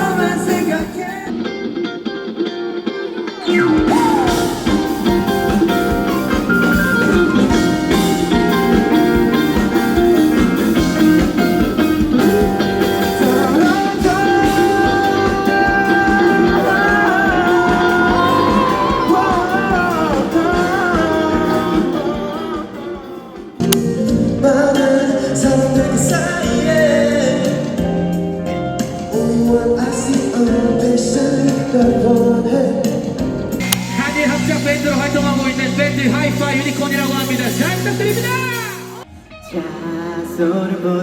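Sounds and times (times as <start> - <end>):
live rock-pop band: 0.0 - 41.0.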